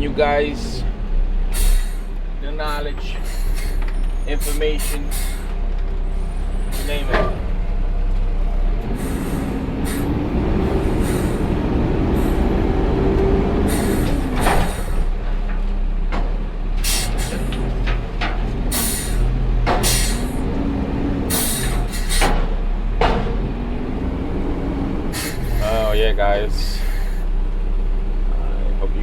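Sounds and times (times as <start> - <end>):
garbage truck engine: 0.0 - 28.9.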